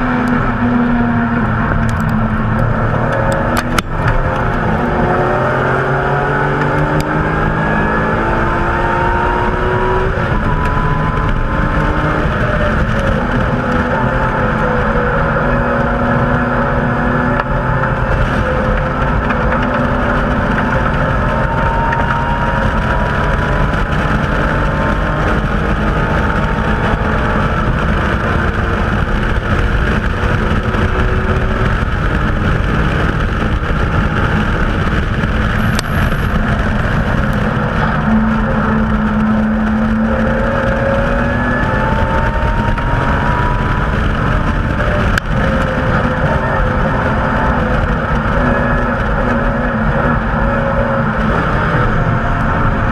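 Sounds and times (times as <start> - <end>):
car engine running hard: 0.0 - 52.9
road and wind noise: 0.0 - 52.9.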